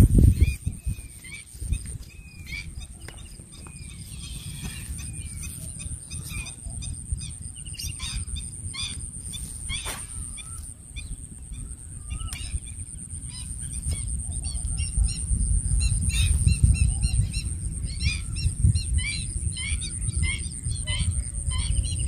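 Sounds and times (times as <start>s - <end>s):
birds chirping: 0.0s - 22.0s
wind rumbling on microphone: 0.0s - 22.0s.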